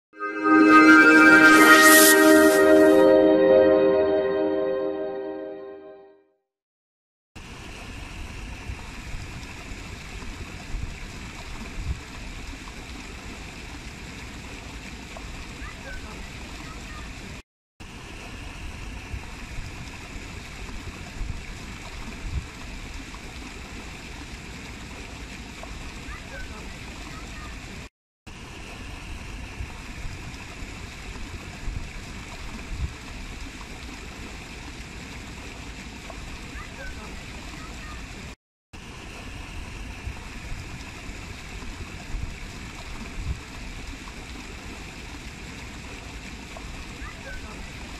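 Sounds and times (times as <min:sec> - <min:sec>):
water running down a cascade: 0:07.4 - 0:47.9.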